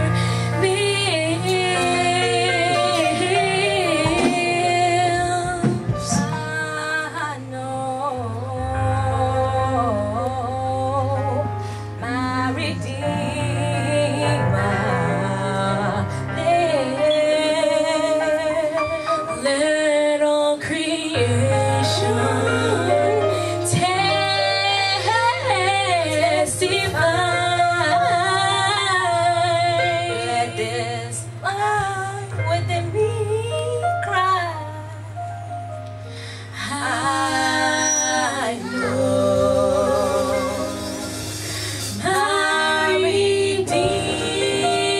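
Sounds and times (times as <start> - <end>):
women singing with vibrato: 0.0 - 34.9, 36.4 - 44.9
instrumental backing: 0.0 - 44.9.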